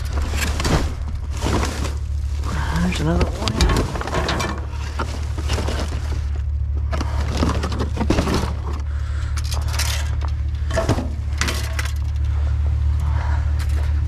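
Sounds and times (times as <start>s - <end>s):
junk clattering and clinking: 0.0s - 14.0s
steady low hum: 0.0s - 14.0s.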